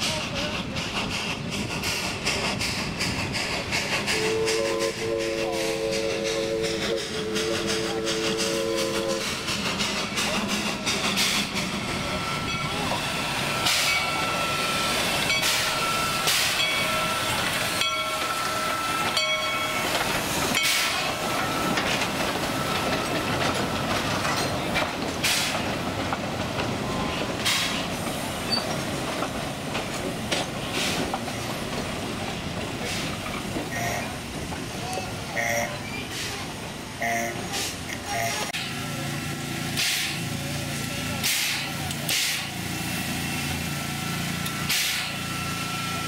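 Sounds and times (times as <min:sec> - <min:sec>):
steam train rumble and hiss: 0:00.0 - 0:46.0.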